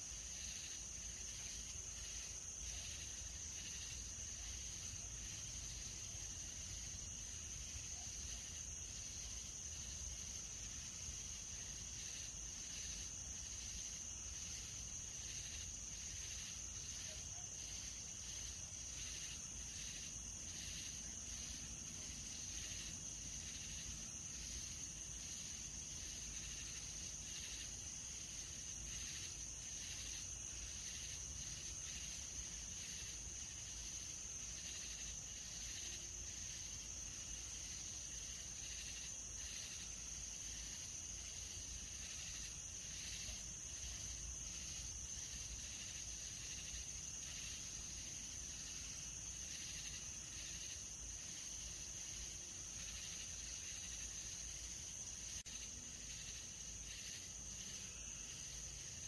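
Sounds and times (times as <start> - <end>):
insect high-pitched trill: 0.0 - 59.0
insect pulsed chirping: 0.0 - 59.0.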